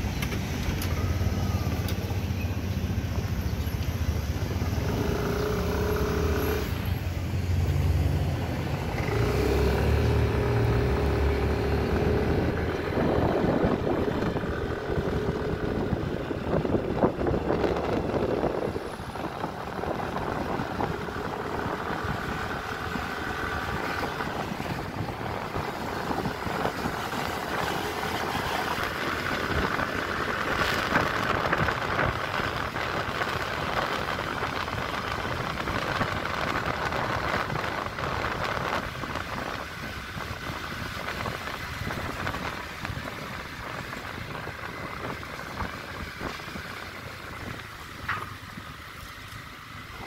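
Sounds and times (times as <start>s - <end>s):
vehicle road noise: 0.0s - 50.0s.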